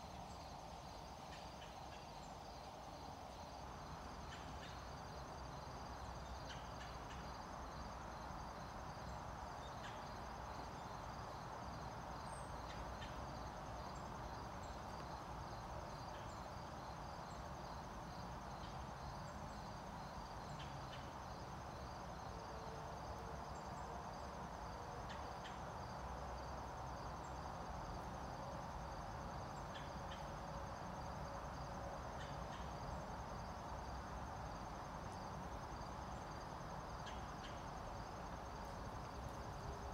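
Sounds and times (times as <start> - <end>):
crickets and insects trilling: 0.0 - 39.9
steady background hiss: 0.0 - 39.9.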